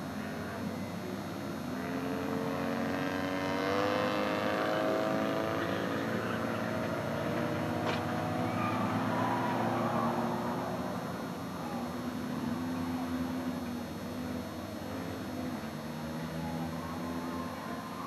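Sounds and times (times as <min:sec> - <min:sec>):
race car engines revving: 0:00.0 - 0:18.0
steady noisy rush: 0:00.0 - 0:18.0.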